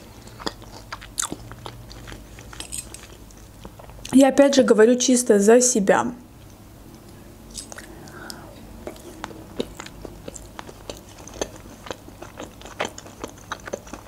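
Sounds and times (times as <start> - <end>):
chewing with mouth clicks and smacks: 0.0 - 4.2, 6.4 - 14.0.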